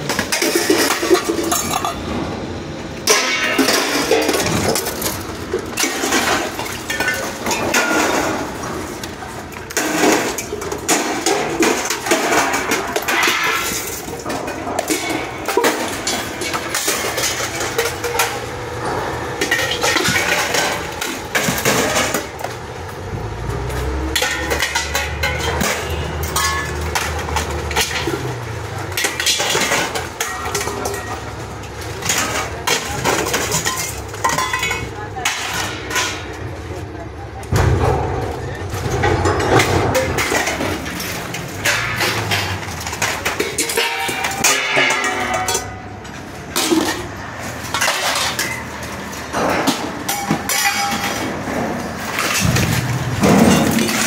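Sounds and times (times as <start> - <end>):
metal clanking: 0.0 - 54.0.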